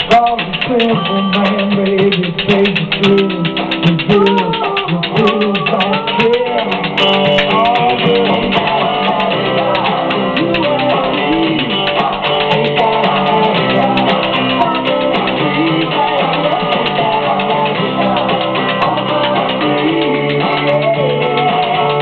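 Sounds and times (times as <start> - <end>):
guitar-led music: 0.0 - 22.0
spoons clicking in rhythm: 0.0 - 22.0.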